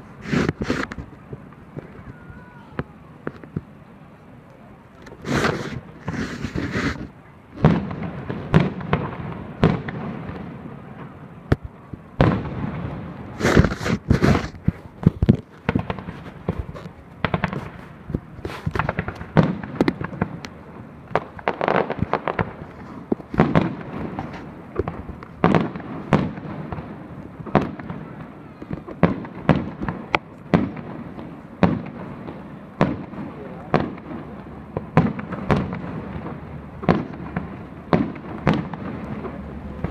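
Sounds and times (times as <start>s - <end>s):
fireworks bangs: 0.0s - 3.8s, 5.0s - 39.9s.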